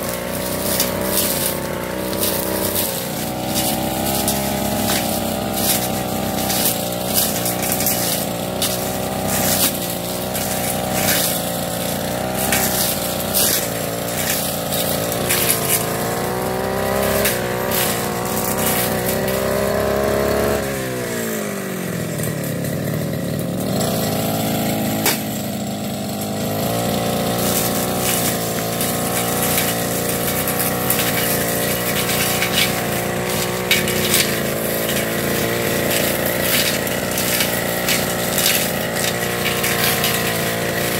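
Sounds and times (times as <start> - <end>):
cutting head striking vegetation: 0.0 - 21.6, 23.6 - 40.9
brush cutter engine revving: 0.0 - 40.9.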